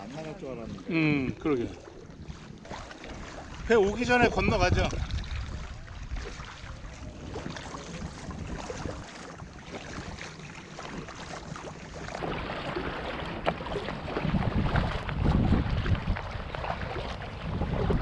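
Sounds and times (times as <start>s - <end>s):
wind buffeting microphone: 0.0s - 11.0s, 12.2s - 18.0s
paddle splashing in water: 0.0s - 18.0s.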